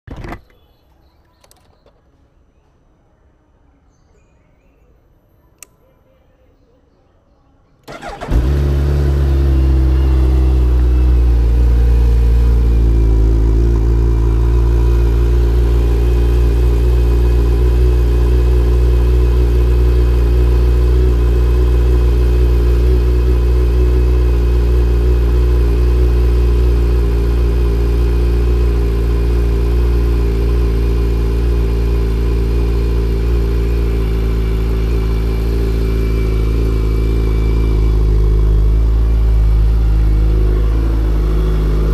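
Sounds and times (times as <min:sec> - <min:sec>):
motorcycle engine idling: 0:07.9 - 0:41.9.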